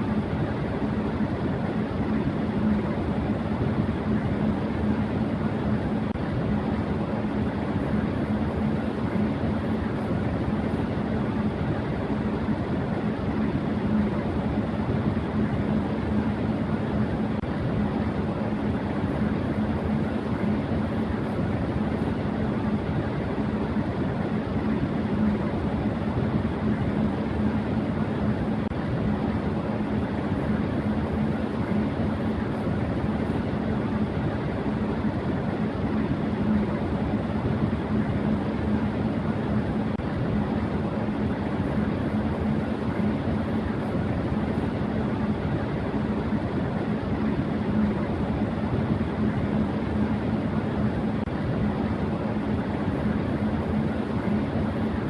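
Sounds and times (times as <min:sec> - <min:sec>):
electric fan air rush: 0:00.0 - 0:55.0
fan motor hum: 0:00.0 - 0:55.0.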